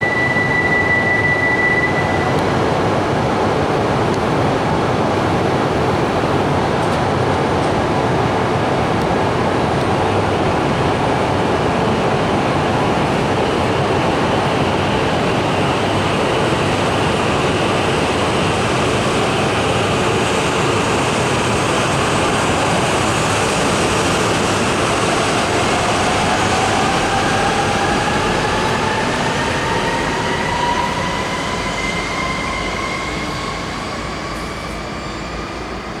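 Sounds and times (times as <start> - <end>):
train rolling rumble: 0.0 - 36.0.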